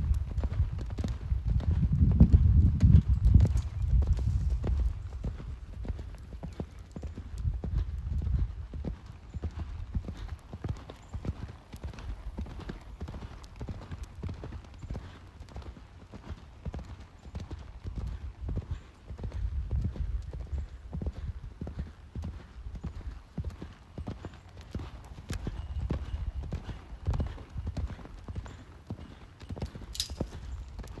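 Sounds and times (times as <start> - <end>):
horse hoofbeats on sand: 0.0 - 31.0.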